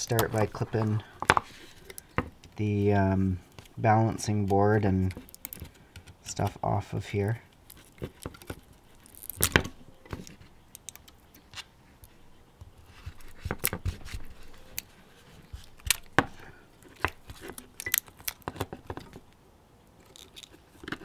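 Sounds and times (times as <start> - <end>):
battery cells clattering: 0.0 - 2.6, 3.6 - 6.8, 7.5 - 12.2, 13.2 - 19.4, 20.0 - 21.0.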